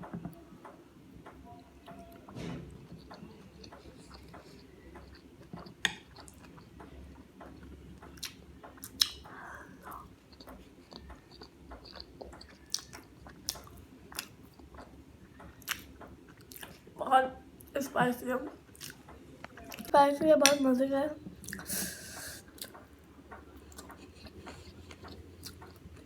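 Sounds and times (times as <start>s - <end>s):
person chewing: 1.8s - 17.0s, 18.6s - 19.9s, 21.4s - 26.0s.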